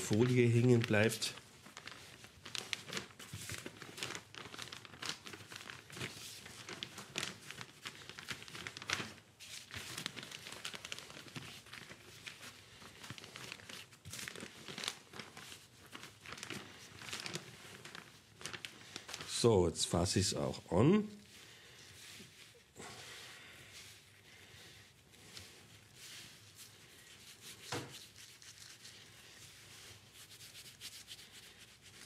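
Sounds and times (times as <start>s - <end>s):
plastic sheet crinkling: 0.0s - 32.0s.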